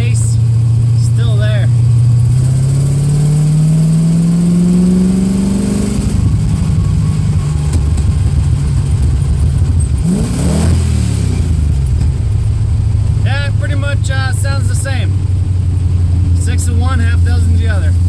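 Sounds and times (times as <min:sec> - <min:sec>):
engine exhaust revving and burbling: 0:00.0 - 0:18.0.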